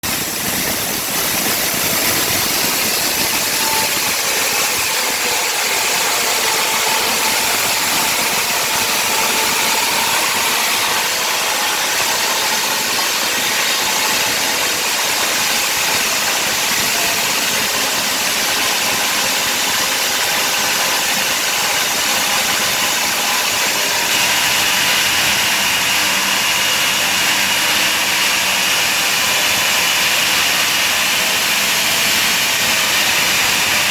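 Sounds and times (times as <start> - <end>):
power saw grinding concrete: 0.0 - 33.9.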